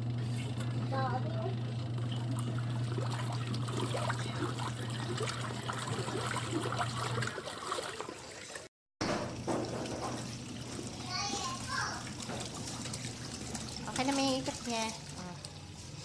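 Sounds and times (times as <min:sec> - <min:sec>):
washing machine motor hum: 0:00.0 - 0:16.0
water sloshing and trickling: 0:01.8 - 0:16.0.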